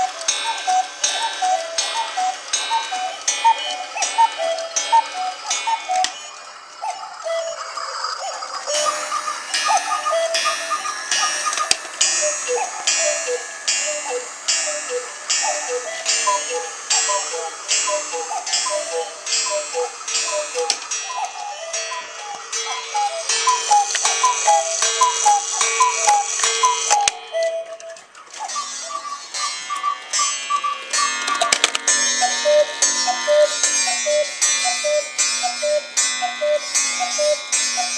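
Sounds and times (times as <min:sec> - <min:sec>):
clocks ticking: 0:00.0 - 0:37.9
cuckoo clock calls: 0:00.0 - 0:37.9.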